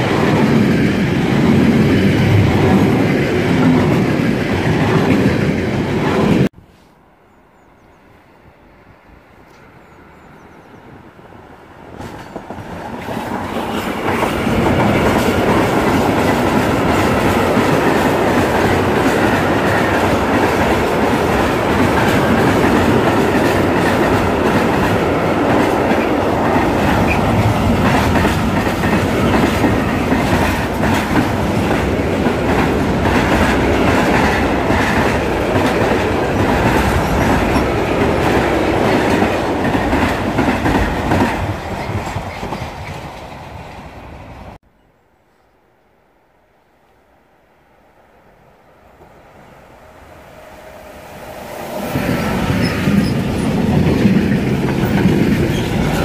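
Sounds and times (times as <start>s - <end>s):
freight train passing: 0.0s - 44.6s, 45.3s - 56.0s.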